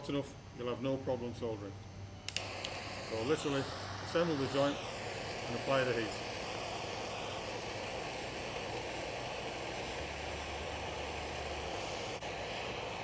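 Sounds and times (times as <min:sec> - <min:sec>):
blowtorch flame hissing: 0:02.3 - 0:13.0.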